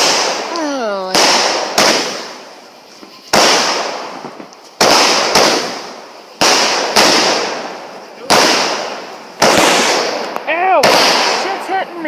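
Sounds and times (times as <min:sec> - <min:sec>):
crackling hiss: 0:00.0 - 0:12.0
fireworks bangs: 0:00.0 - 0:12.0.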